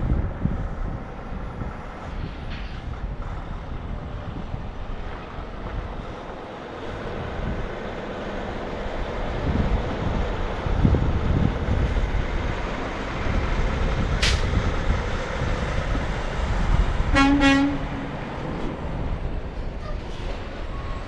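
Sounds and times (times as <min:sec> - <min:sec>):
truck engine and tyres: 0:00.0 - 0:21.0.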